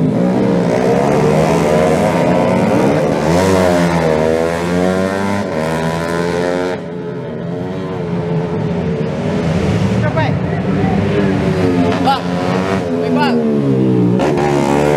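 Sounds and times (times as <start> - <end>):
racing motorcycles revving: 0.0 - 14.9.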